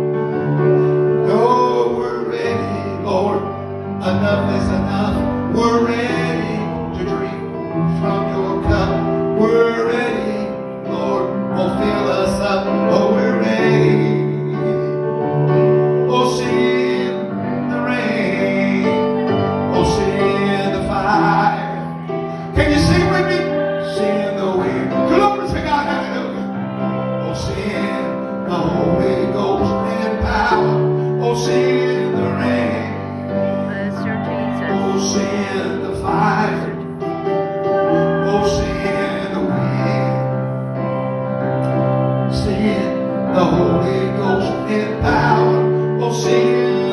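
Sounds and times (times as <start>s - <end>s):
instrumental accompaniment: 0.0s - 46.9s
man singing gospel song: 1.1s - 14.9s, 15.7s - 46.9s.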